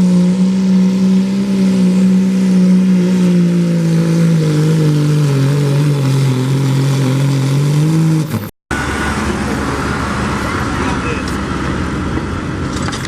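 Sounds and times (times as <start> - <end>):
diesel engine revving high: 0.0 - 13.0
rough noisy engine: 0.0 - 13.0.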